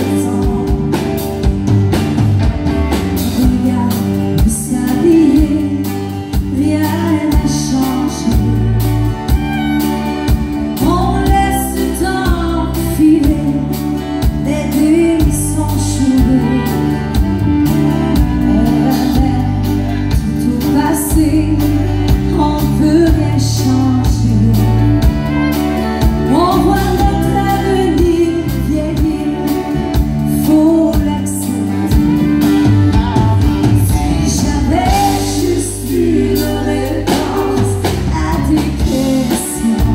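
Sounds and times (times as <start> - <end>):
woman singing: 0.0 - 1.5, 3.2 - 9.8, 10.7 - 39.9
backing band with drums: 0.0 - 39.9.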